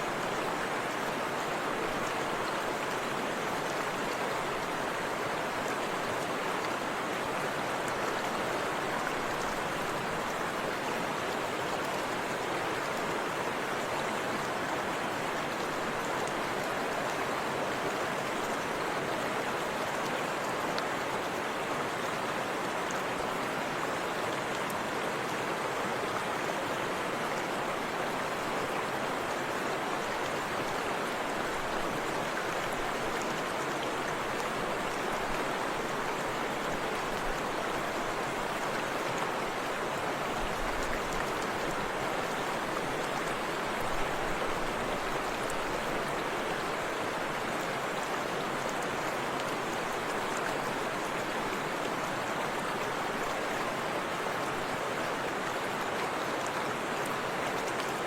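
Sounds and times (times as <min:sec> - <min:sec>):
river rushing over waterfall: 0:00.0 - 0:58.0.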